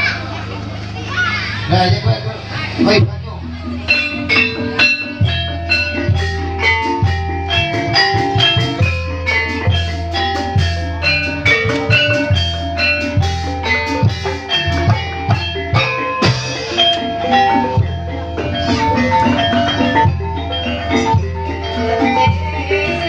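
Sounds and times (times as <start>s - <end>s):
gamelan music: 0.0s - 23.0s
drum beats: 1.7s - 23.0s.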